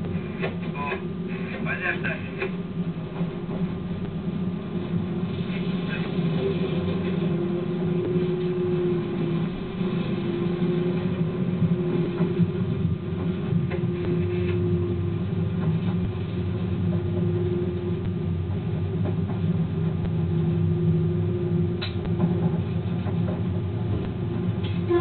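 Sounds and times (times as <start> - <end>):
train rumbling on rails: 0.0 - 25.0
humming tone: 2.4 - 25.0.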